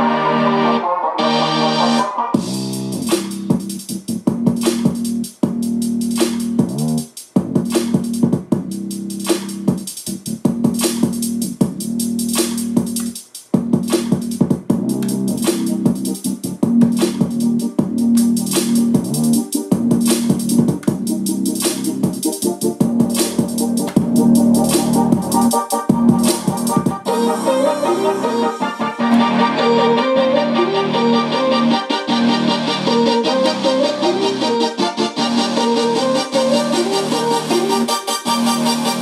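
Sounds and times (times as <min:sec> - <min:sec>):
electronic music with drum machine: 0:00.0 - 0:39.0.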